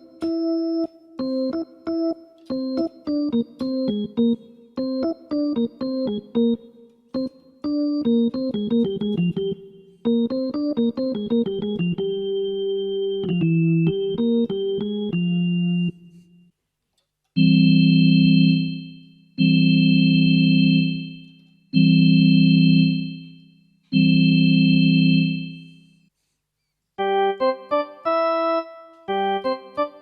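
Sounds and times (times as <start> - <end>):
electronic keyboard organ notes: 0.0 - 16.5, 17.4 - 25.8, 27.0 - 30.0.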